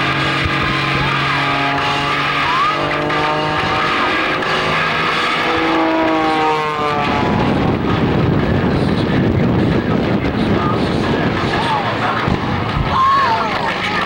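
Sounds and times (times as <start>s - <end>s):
music over loudspeakers: 0.0s - 14.0s
propeller plane engine: 0.0s - 14.0s.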